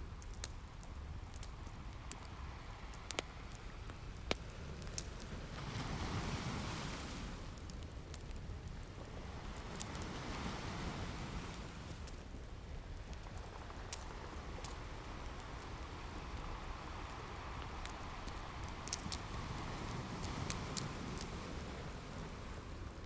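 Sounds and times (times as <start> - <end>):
wood fire crackling and popping: 0.0 - 23.0
ocean waves: 2.2 - 7.8, 8.7 - 12.3, 13.2 - 23.0.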